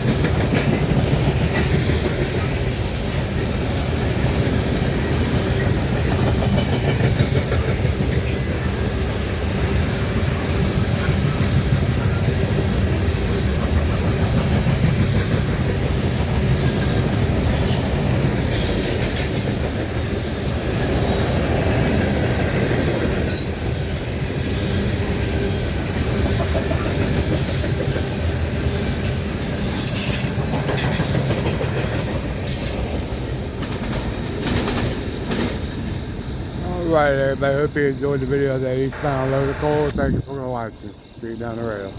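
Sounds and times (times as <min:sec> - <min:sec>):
steel wheels rumbling on rail: 0:00.0 - 0:41.9.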